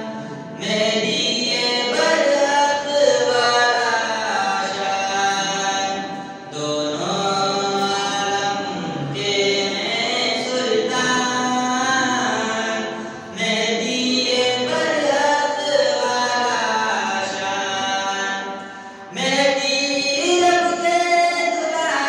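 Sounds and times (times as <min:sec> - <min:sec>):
young man chanting: 0:00.0 - 0:22.0.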